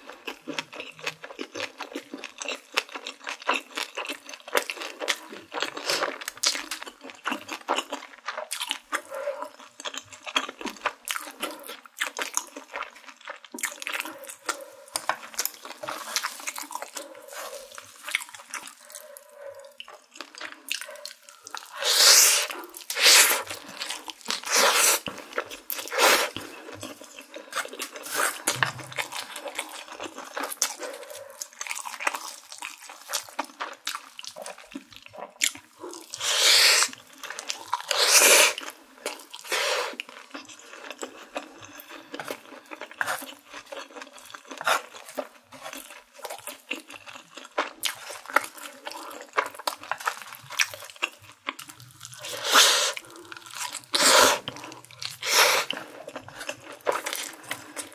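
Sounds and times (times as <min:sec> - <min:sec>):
wet chewing: 0:00.0 - 0:57.9.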